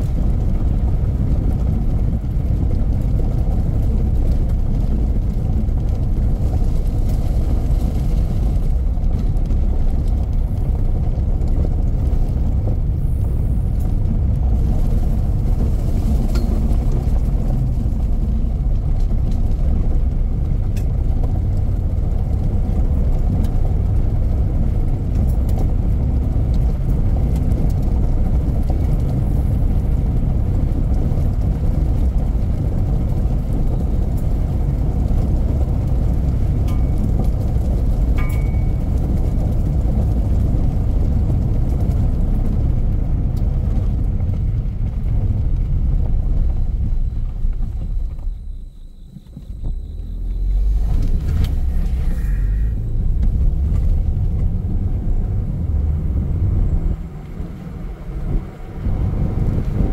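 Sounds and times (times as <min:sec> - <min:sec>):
car driving on gravel: 0:00.0 - 0:59.9.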